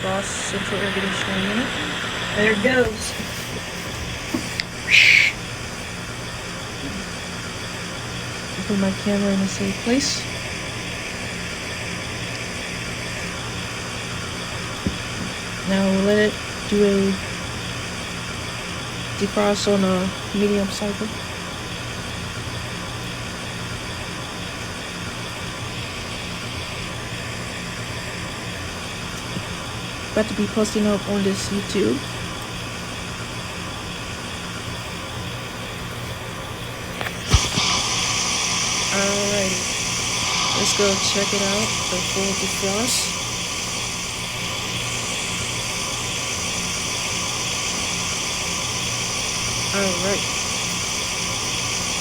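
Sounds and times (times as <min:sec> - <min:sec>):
heat pump units humming: 0:00.0 - 0:52.0
hiss: 0:00.0 - 0:52.0.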